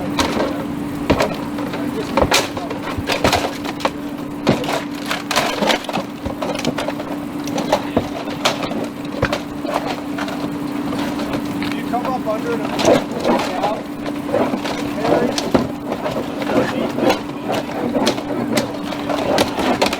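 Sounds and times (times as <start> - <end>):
steady hum: 0.0 - 19.9
wooden siding cracking and splintering: 0.0 - 19.9.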